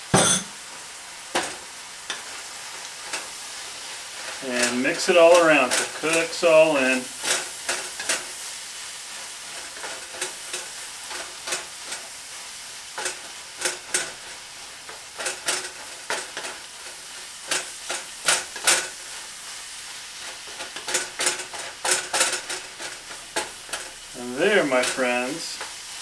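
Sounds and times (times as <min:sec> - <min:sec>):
food sizzling: 0:00.0 - 0:26.0
wooden spatula scraping skillet: 0:02.1 - 0:08.4, 0:09.1 - 0:26.0.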